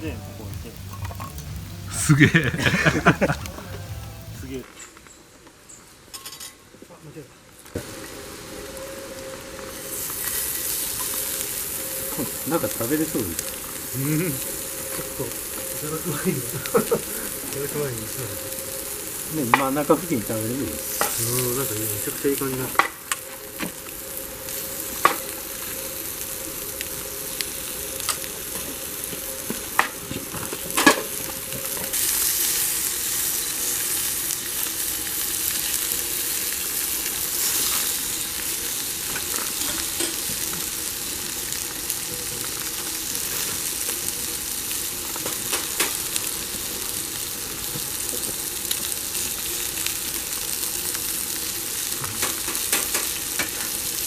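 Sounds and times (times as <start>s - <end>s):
food sizzling in fat: 0.0s - 54.0s.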